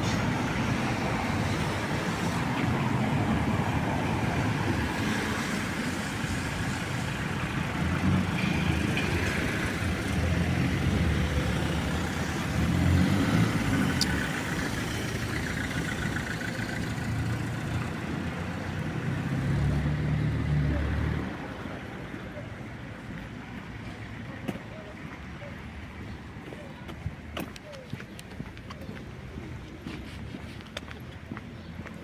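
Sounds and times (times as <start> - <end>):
road vehicles passing: 0.0 - 32.0.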